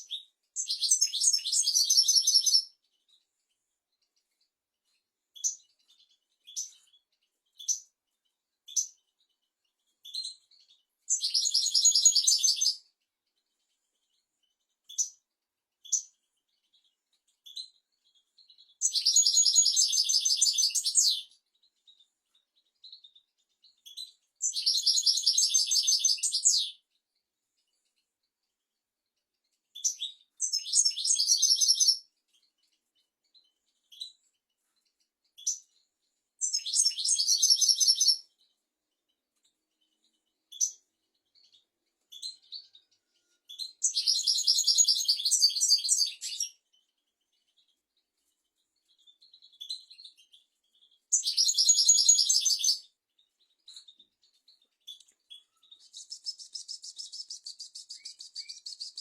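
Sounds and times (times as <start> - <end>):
finch twittering song: 0.0 - 59.0.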